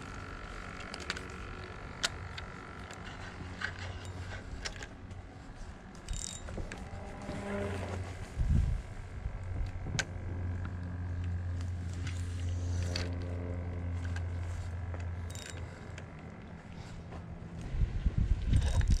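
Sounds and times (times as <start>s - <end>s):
fishing reel gear whir: 0.0s - 17.8s, 18.4s - 19.0s.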